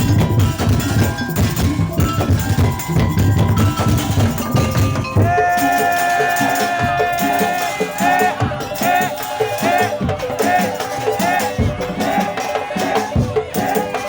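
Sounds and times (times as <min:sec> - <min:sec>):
bamboo slit drums and drums: 0:00.0 - 0:14.0.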